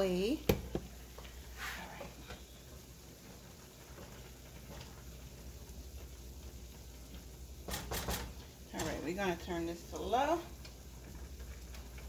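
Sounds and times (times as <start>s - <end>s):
pot of water boiling: 0.0s - 12.0s.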